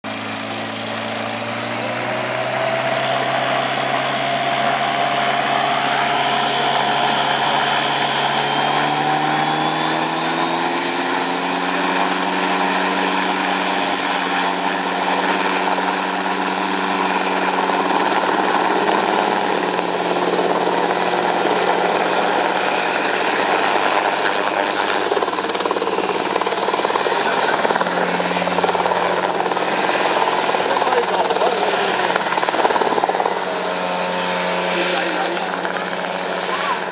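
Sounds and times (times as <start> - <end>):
helicopter engine and rotor: 0.0 - 36.9.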